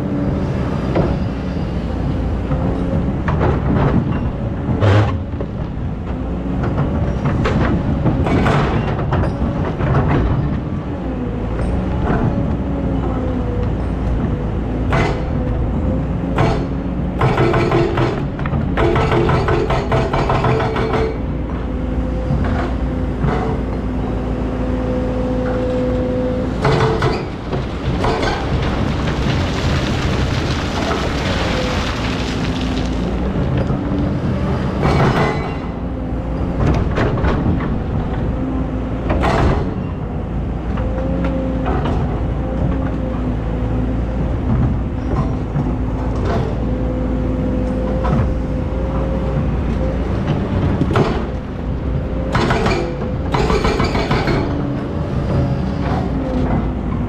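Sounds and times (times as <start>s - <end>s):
excavator engine whine: 0.0s - 57.0s.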